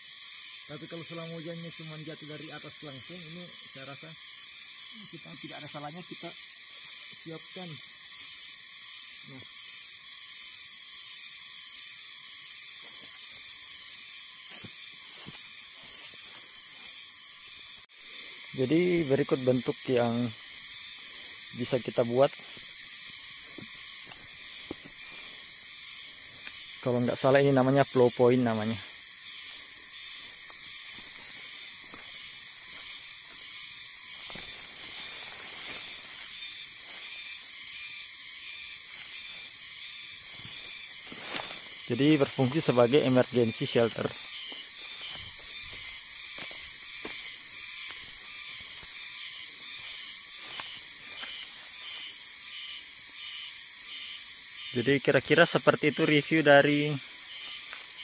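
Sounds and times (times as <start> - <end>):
high-pitched forest hiss: 0.0 - 58.0.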